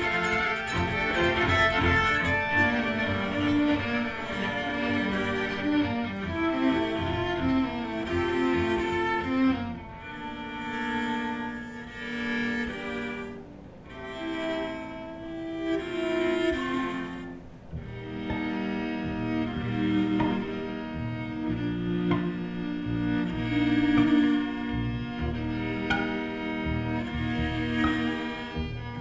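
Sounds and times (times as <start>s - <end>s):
bowed strings sustained notes: 0.0s - 29.0s
pulsing low cello line: 0.0s - 29.0s.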